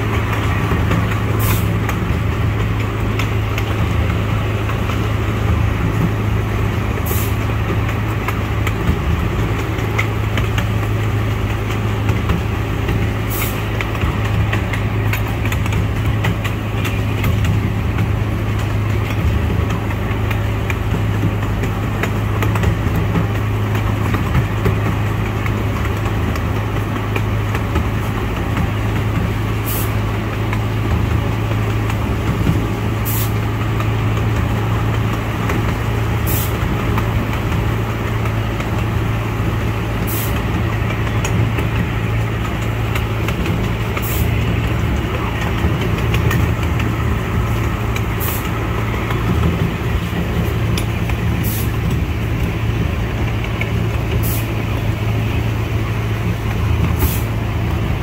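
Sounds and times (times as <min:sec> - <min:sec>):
train engine humming and rumbling: 0:00.0 - 0:58.0.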